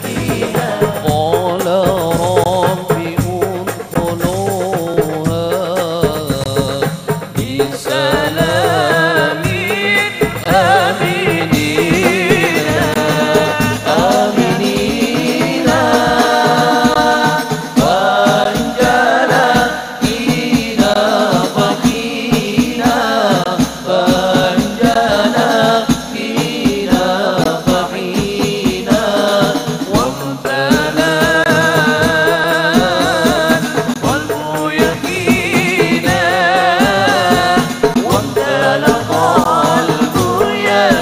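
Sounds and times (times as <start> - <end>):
frame drums with jingles: 0.0 - 41.0
men singing a devotional chant: 0.0 - 41.0.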